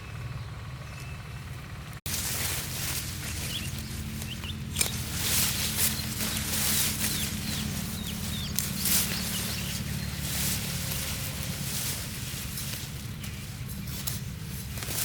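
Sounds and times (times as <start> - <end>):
birds chirping: 0.0 - 15.0
low hum: 0.0 - 15.0
rustling: 2.1 - 15.0.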